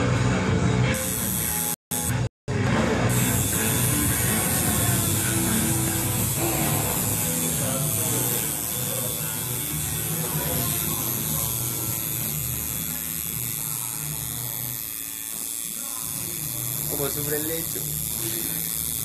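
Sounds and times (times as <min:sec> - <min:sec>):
tattoo machine buzzing: 0:00.8 - 0:19.0.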